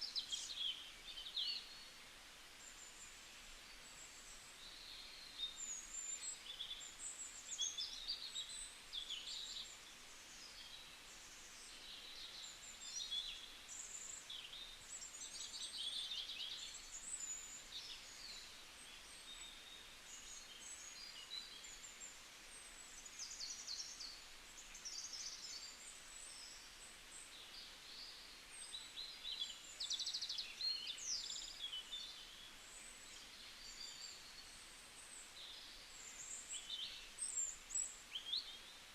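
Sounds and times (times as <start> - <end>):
faint background hiss: 0.0 - 38.9.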